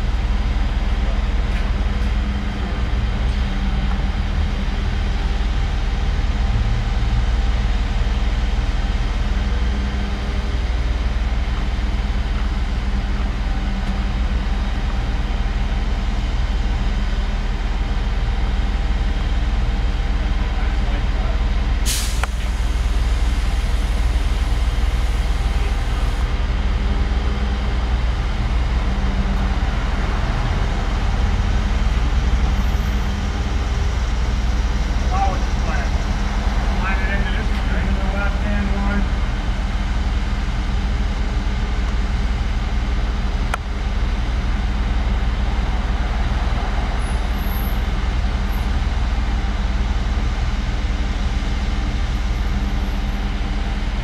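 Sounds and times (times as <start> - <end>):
truck engine humming: 0.0 - 54.0.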